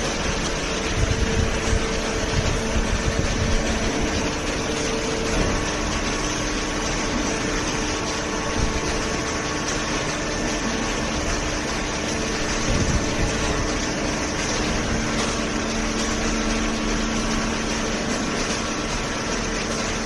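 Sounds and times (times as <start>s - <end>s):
hydraulic baler humming: 0.0s - 20.0s
low machine tone: 0.0s - 20.0s.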